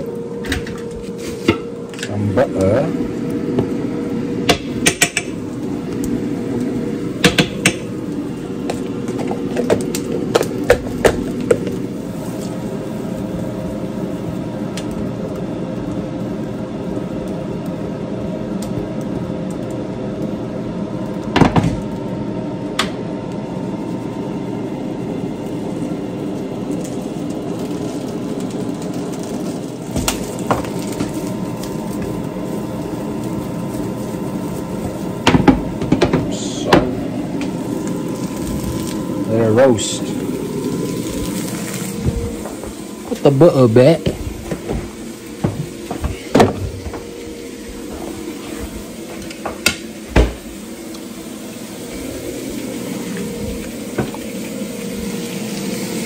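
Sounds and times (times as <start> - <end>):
steady hum with faint tone: 0.0 - 56.0.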